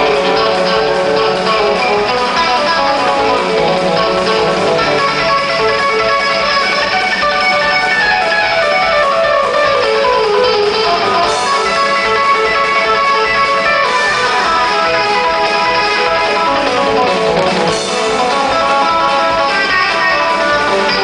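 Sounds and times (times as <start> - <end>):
lead electric guitar runs: 0.0 - 21.0
live country band playing: 0.0 - 21.0.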